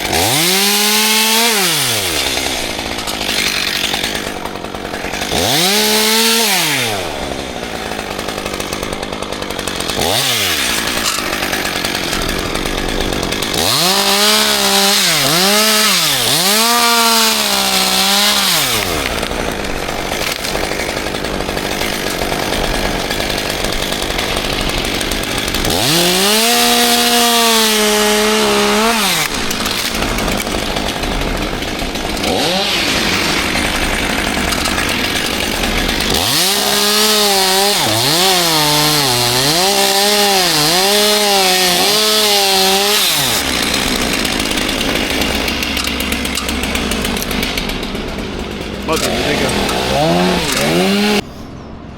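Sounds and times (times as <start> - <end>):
chainsaw revving: 0.0 - 51.3.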